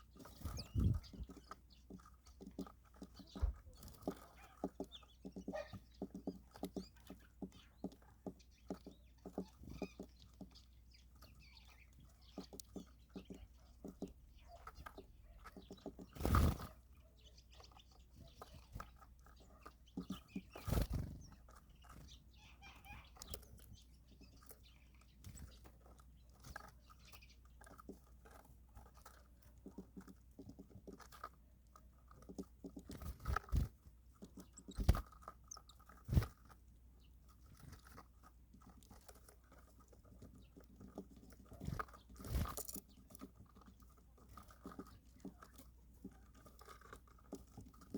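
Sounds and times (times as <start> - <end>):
birds pecking and cracking seeds: 0.0 - 47.9.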